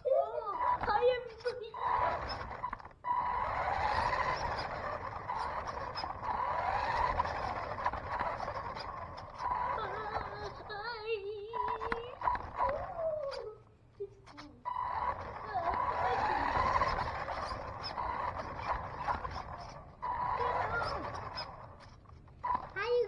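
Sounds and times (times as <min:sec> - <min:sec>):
wheels rumbling over ground: 0:00.0 - 0:13.6, 0:14.2 - 0:23.0
electric toy car motor whining: 0:00.0 - 0:23.0.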